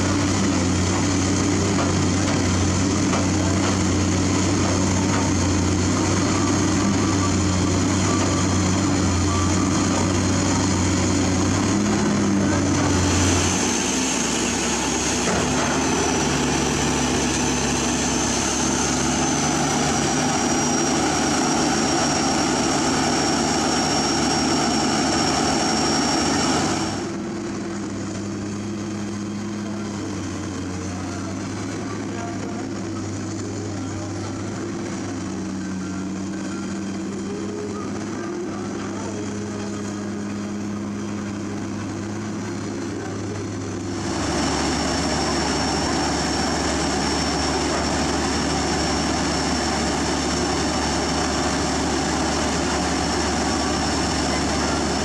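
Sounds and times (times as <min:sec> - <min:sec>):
excavator diesel engines running: 0:00.0 - 0:55.0.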